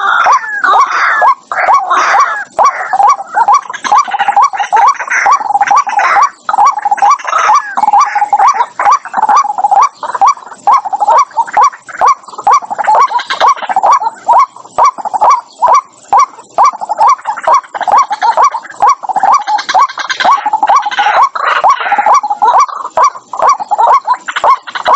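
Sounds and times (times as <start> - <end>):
waterhen calling: 0.0 - 24.9.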